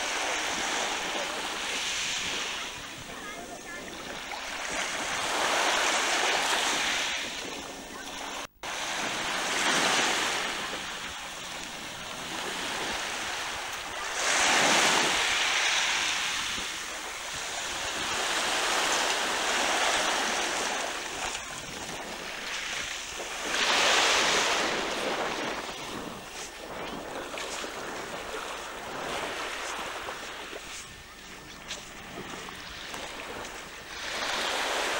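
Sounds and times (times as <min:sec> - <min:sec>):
small waves washing onto shore: 0:00.0 - 0:34.9.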